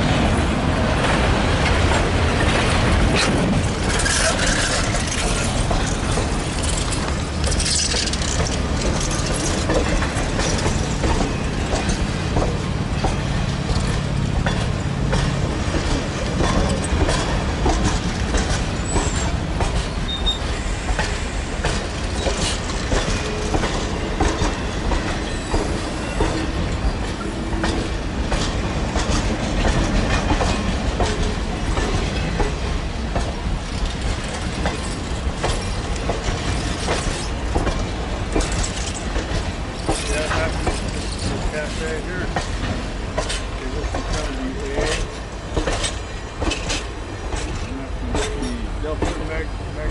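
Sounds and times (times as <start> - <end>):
train wheels clattering on rails: 0.0 - 49.9.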